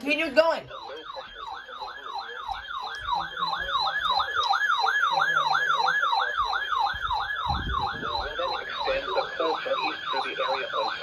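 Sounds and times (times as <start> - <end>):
electronic siren yelping: 0.1 - 11.0.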